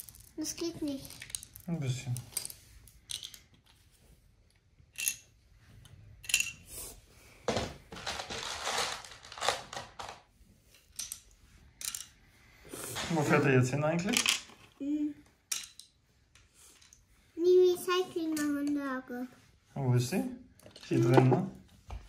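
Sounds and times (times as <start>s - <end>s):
rustling and scraping: 0.0s - 22.0s.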